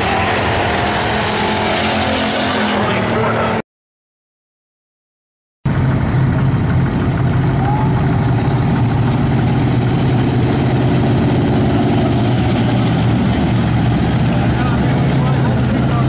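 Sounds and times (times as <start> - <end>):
race car engines droning: 0.0 - 3.6, 5.7 - 16.0.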